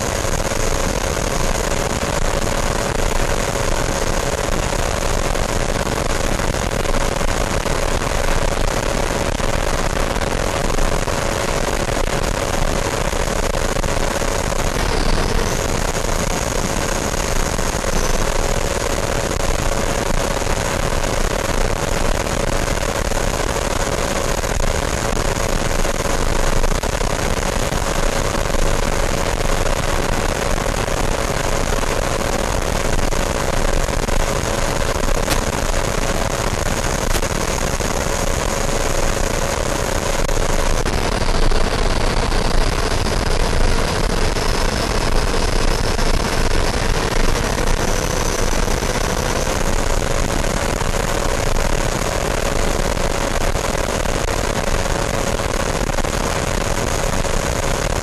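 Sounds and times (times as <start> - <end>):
electric fan whine: 0.0 - 58.0.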